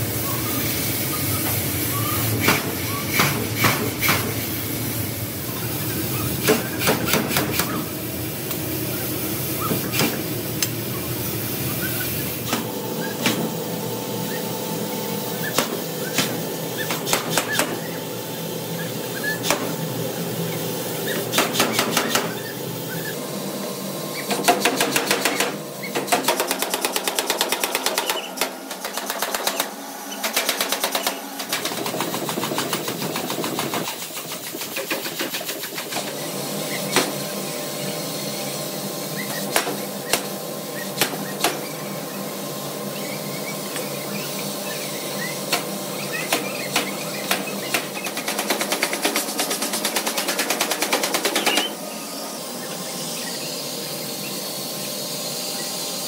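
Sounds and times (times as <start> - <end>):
machinery hum: 0.0 - 56.0.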